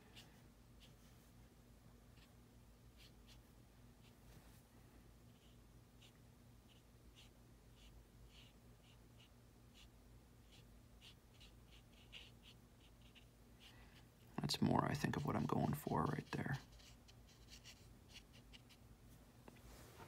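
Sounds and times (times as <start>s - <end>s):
paintbrush scratching on paper: 0.0s - 1.3s, 2.9s - 4.6s, 5.3s - 18.8s
low steady hum: 0.0s - 20.0s.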